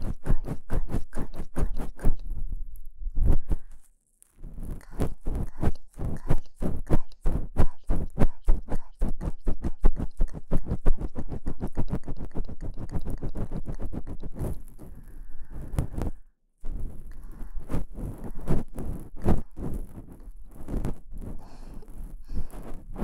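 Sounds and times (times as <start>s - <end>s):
ear pick scraping in ear: 0.0s - 2.3s, 3.2s - 23.0s.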